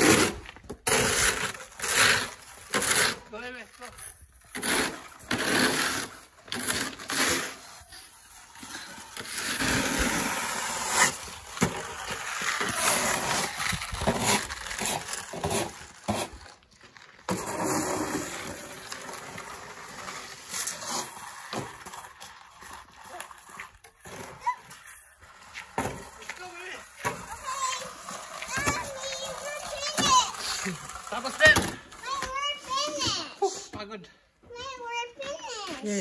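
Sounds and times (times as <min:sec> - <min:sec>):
snow shovels scraping slush on concrete: 0:00.0 - 0:36.0.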